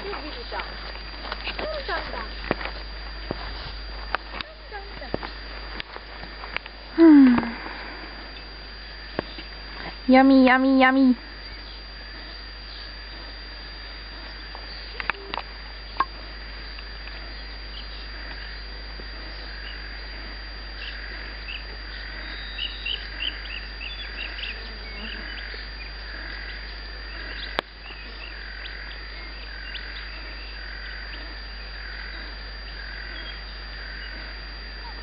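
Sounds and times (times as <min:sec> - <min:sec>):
birds chirping: 0:00.0 - 0:35.0
pulsing chirring of insects: 0:00.0 - 0:35.0.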